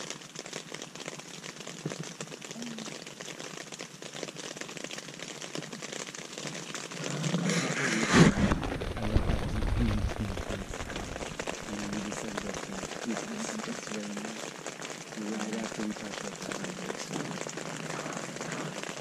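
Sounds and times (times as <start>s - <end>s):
rain pattering on tent fabric: 0.0s - 19.0s.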